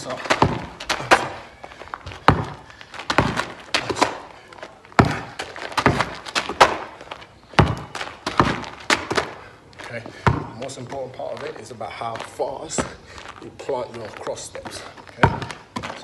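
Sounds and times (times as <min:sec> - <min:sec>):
basketball bouncing on asphalt: 0:00.0 - 0:16.0.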